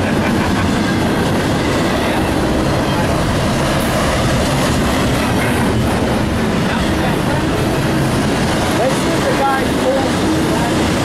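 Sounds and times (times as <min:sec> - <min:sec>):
freight train wheels rumbling on track: 0:00.0 - 0:11.0.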